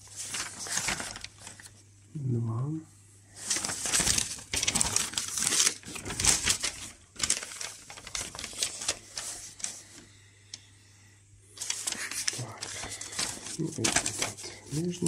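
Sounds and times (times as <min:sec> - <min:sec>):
paper rustling and crackling: 0:00.0 - 0:01.8, 0:03.3 - 0:10.6, 0:11.5 - 0:15.0.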